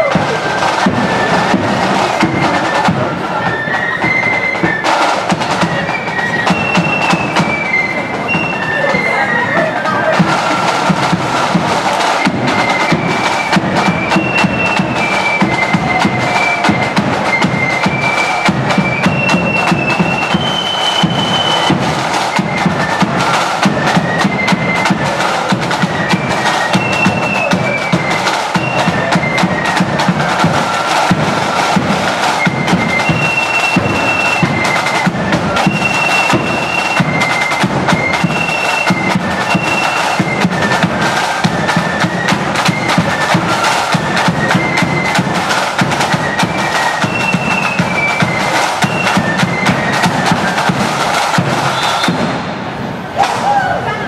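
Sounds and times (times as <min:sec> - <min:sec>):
rapid snare drumming: 0:00.0 - 0:53.8
flutes playing melody: 0:00.0 - 0:54.0.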